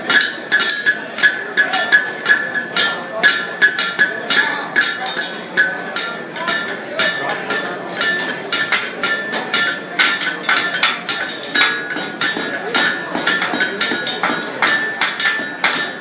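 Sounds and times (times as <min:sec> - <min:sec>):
hammer striking anvil ringing: 0:00.0 - 0:16.0.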